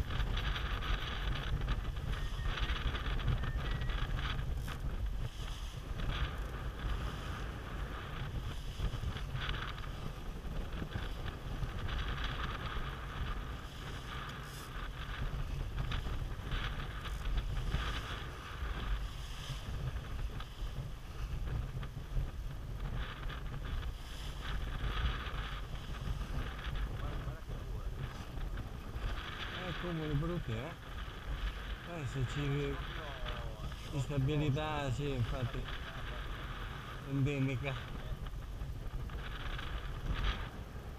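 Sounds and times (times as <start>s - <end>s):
water rushing along hull: 0.0s - 40.9s
wind buffeting microphone: 0.0s - 40.9s.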